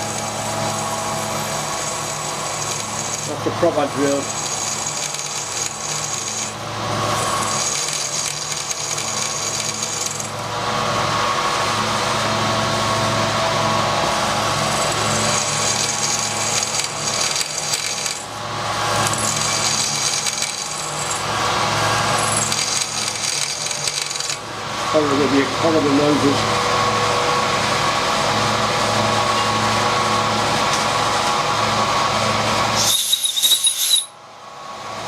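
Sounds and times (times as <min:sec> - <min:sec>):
milling machine motor hum: 0:00.0 - 0:32.8
drill cutting metal: 0:00.0 - 0:34.2.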